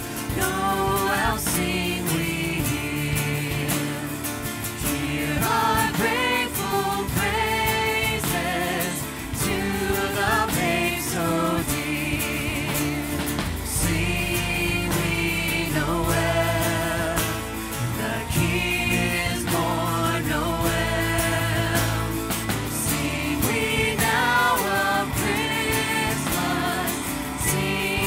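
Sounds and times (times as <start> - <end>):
acoustic and electric guitars: 0.0 - 28.0
steady beat: 0.0 - 28.0
voices singing together: 0.0 - 28.0.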